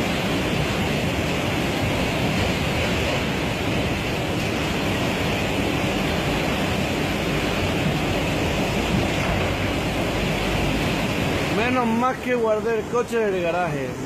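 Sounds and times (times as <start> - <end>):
violent storm rushing: 0.0 - 14.0.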